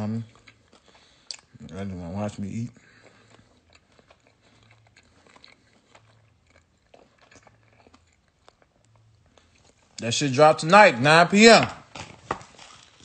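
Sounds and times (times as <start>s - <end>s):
person chewing crunchy food: 0.0s - 10.0s, 11.9s - 13.0s.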